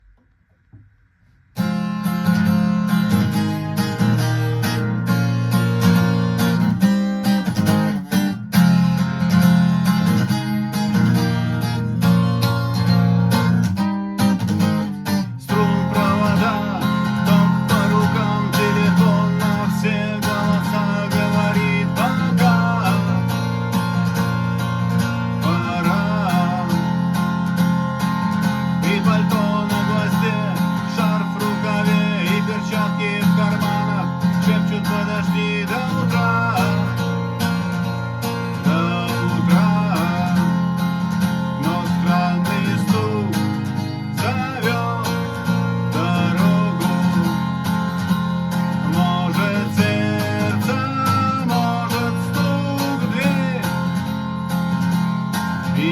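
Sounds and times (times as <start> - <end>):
guitar melody line: 0.0 - 55.9
guitar strumming chords: 0.0 - 55.9.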